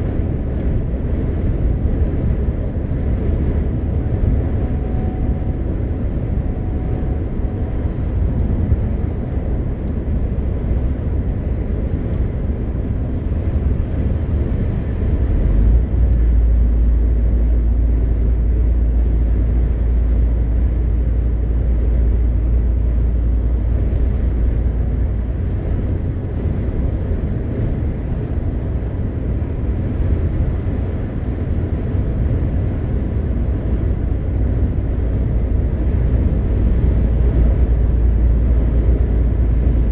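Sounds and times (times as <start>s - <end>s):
road and tyre noise: 0.0s - 39.9s
truck diesel engine rumble: 0.0s - 39.9s.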